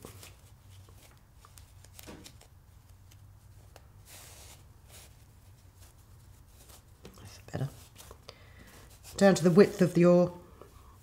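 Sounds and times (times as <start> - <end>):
fabric rustling: 0.0 - 10.2.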